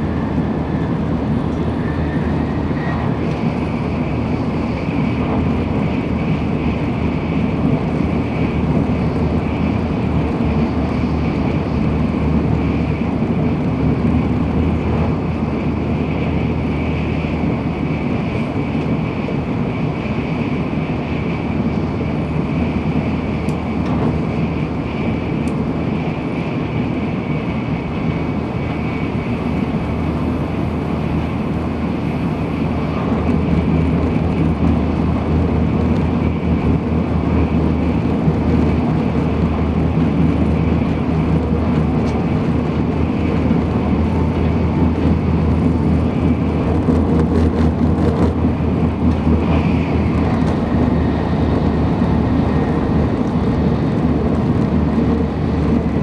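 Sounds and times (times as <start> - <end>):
train cabin low rumble: 0.0 - 56.0.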